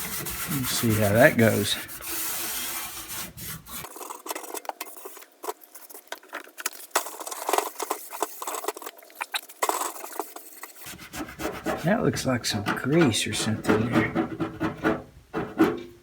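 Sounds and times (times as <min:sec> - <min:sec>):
hand scrubbing metal toolbox: 0:00.0 - 0:15.9.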